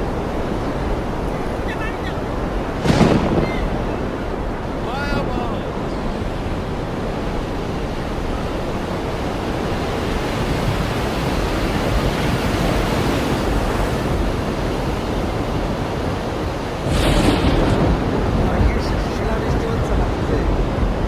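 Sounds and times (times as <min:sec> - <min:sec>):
wind blowing on microphone: 0:00.0 - 0:21.0.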